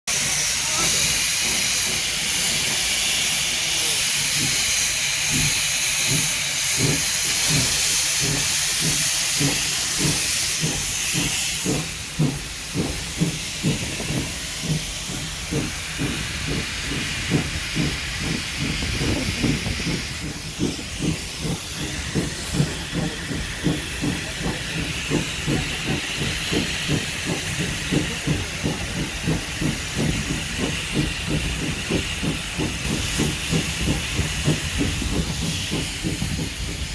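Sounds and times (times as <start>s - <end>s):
loud hiss of steam: 0.1s - 36.9s
steam locomotive exhaust beats: 0.1s - 36.9s.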